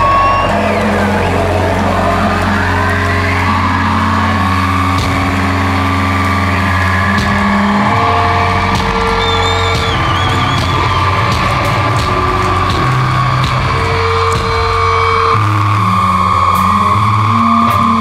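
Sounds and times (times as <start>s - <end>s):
deep low hum: 0.0s - 18.0s
distorted electric guitar drone: 0.0s - 18.0s
high guitar feedback whine: 0.0s - 18.0s.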